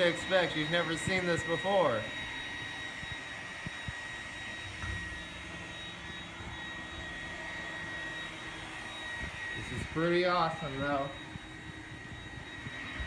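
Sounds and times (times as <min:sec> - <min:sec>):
robot vacuum motor whir: 0:00.0 - 0:13.0.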